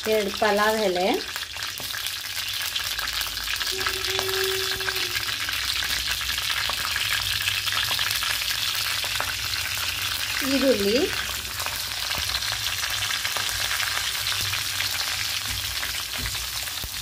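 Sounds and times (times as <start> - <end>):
seeds sizzling in hot oil: 0.0 - 17.0.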